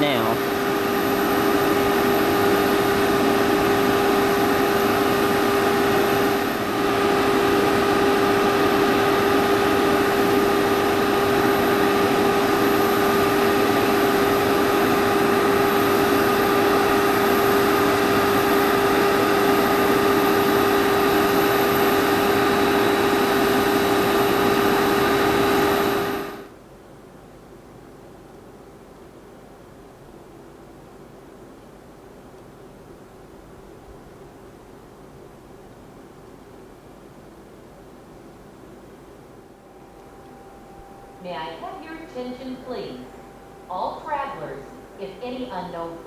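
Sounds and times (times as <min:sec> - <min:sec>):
auxiliary power unit humming: 0:00.0 - 0:46.0.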